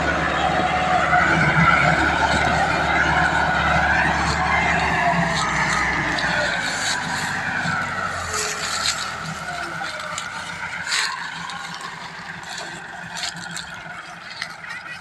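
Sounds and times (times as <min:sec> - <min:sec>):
tractor engine whining: 0:00.0 - 0:15.0.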